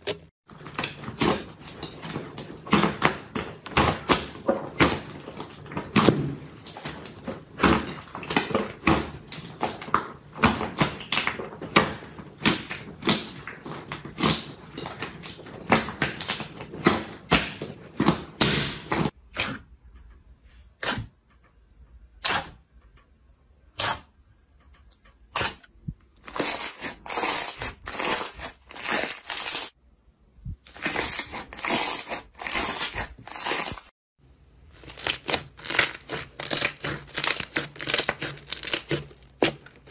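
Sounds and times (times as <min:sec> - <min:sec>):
slime squishing: 0:00.0 - 0:19.8, 0:24.9 - 0:29.8, 0:30.5 - 0:39.9.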